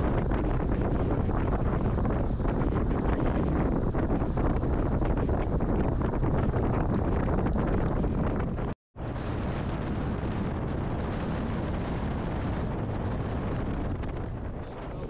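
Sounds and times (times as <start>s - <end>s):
boat engine running: 0.0s - 15.0s
water against hull: 0.0s - 15.0s
wind buffeting microphone: 0.0s - 15.0s.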